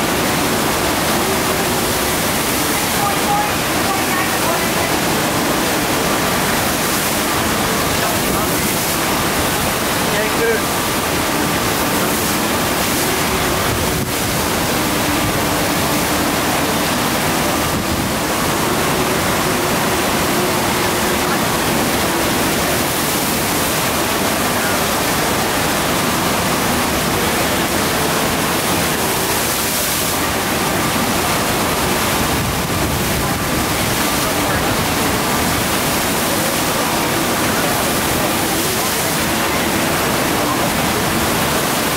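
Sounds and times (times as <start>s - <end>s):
water rushing up slope: 0.0s - 41.9s.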